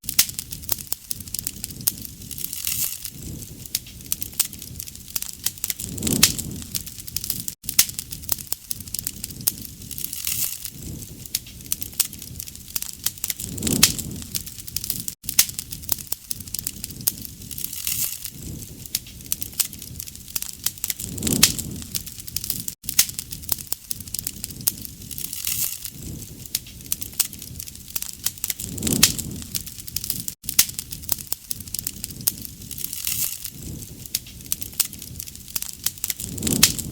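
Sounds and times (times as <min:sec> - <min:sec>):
low rush of flame: 0:00.0 - 0:36.9
wood fire crackling and popping: 0:00.0 - 0:36.9.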